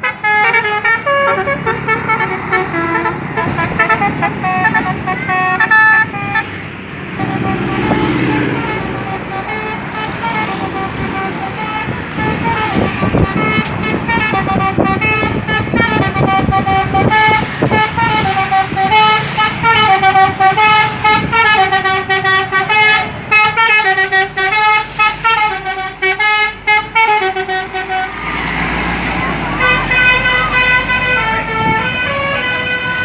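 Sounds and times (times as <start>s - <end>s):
electric bus horns playing tune: 0.0s - 33.0s
engine and road noise: 0.0s - 33.0s.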